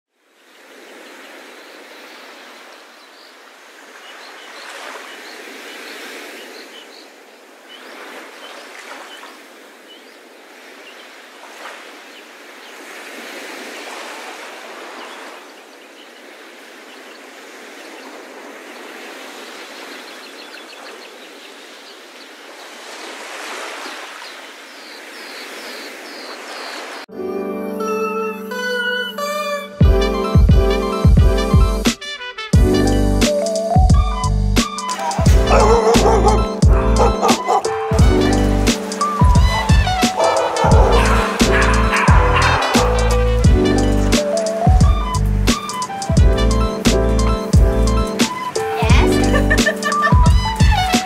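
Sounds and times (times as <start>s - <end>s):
small waves washing onto beach: 0.1s - 27.1s, 34.6s - 46.1s, 48.1s - 51.0s.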